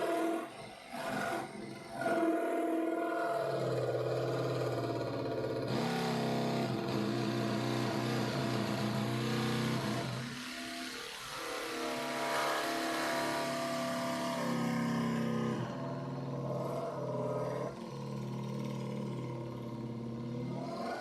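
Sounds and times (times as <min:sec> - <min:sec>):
jigsaw cutting plastic: 0:00.0 - 0:21.0.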